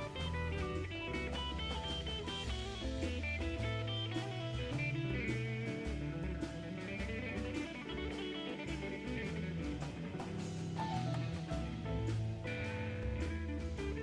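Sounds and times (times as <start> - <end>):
guitar music with beat and bass: 0.0 - 14.0.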